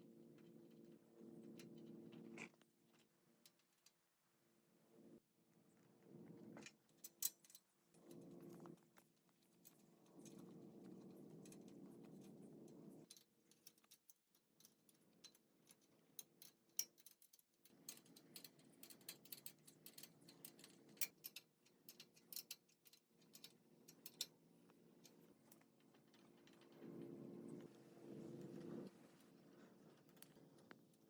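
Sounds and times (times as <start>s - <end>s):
small clicks and ticks: 0.3s - 4.1s, 5.8s - 27.8s, 28.4s - 31.0s.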